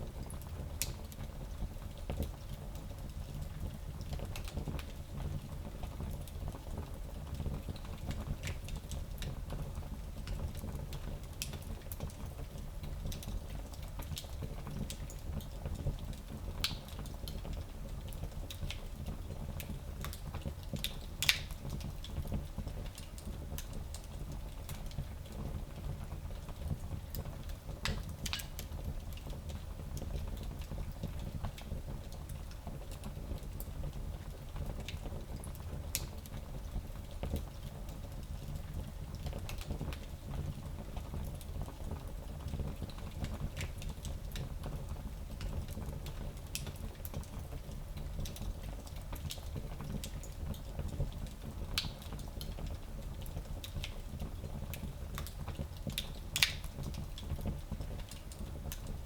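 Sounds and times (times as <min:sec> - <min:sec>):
fire crackling and popping: 0:00.1 - 0:59.0.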